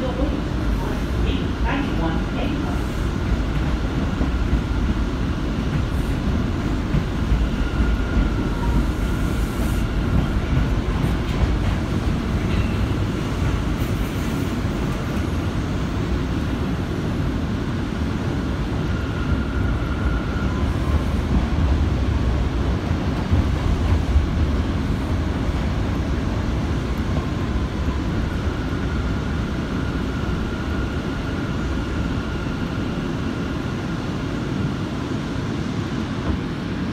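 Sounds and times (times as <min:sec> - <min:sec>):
subway car rumbling: 0:00.0 - 0:36.9.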